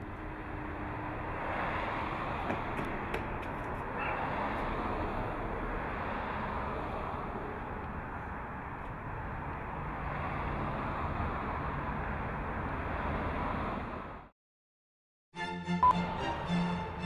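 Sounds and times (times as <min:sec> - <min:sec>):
street ambience rush: 0:00.0 - 0:14.3, 0:15.8 - 0:17.0.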